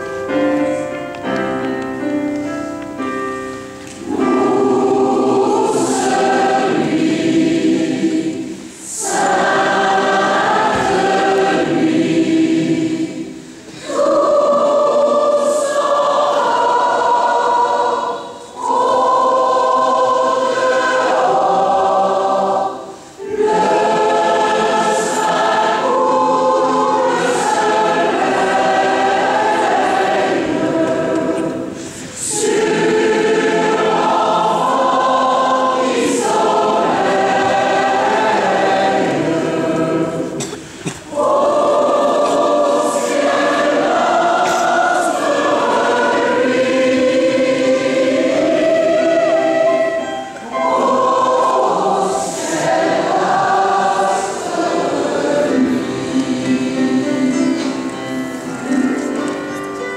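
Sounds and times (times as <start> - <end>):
choir singing: 0.0 - 1.0, 1.6 - 59.9.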